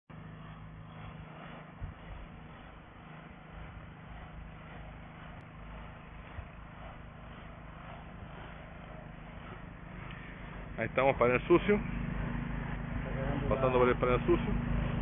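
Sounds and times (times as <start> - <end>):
cleaning robot motor hum: 0.1 - 15.0
low unsteady rumble: 0.1 - 15.0.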